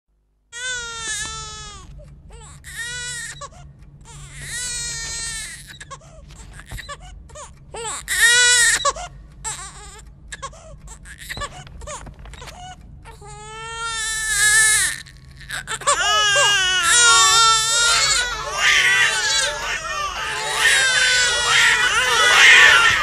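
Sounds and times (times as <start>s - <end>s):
faint low hum: 0.1s - 23.0s
infants crying: 0.6s - 6.0s, 6.6s - 12.0s, 13.1s - 23.0s.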